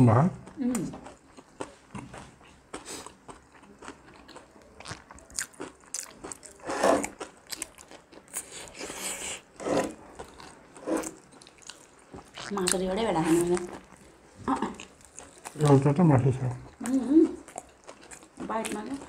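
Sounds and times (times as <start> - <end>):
wet chewing: 0.4 - 19.0.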